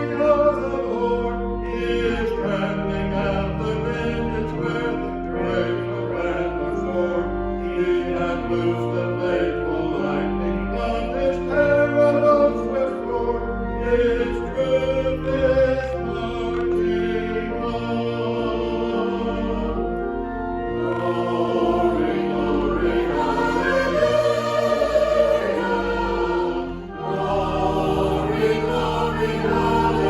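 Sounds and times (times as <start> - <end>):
sustained chords: 0.0 - 30.0
voices singing: 0.0 - 30.0.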